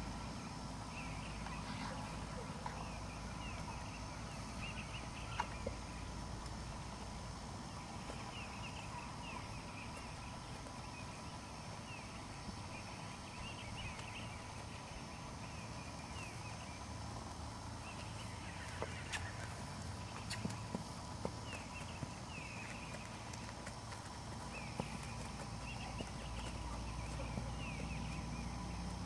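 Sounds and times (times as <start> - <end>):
birds chirping: 0.0 - 29.0
low background noise: 0.0 - 29.0.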